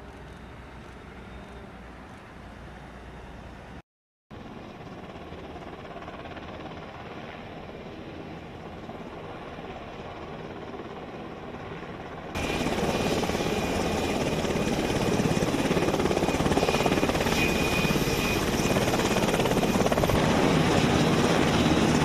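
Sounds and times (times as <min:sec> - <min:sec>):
helicopter rotor chopping: 0:04.4 - 0:22.0.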